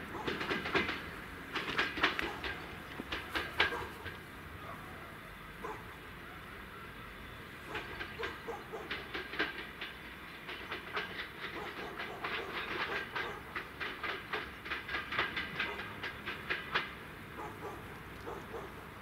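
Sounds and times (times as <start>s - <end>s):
train wheels clattering over rail joints: 0.0s - 4.7s, 7.4s - 19.0s.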